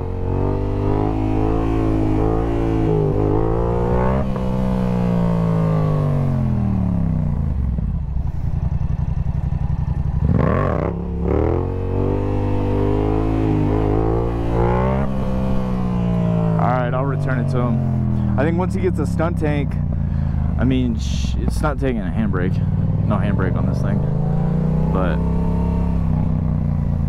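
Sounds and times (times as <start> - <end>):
motorcycle engine revving: 0.0 - 27.0
motorcycle engine idling: 4.3 - 27.0.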